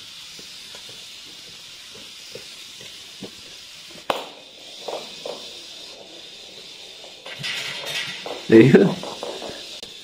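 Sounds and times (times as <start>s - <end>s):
robotic toy motor hiss: 0.0s - 10.0s.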